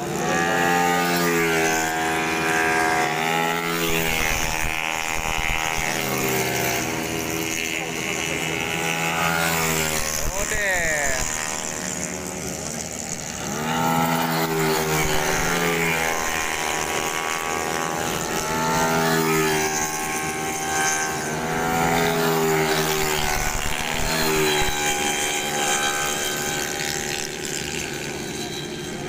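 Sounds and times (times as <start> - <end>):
scooter engines revving past: 0.0 - 29.0.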